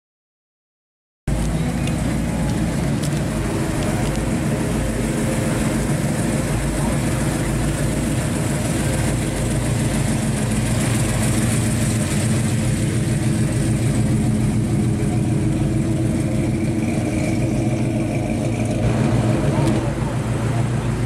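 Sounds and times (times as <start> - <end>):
car engine rolling past: 1.3 - 21.0.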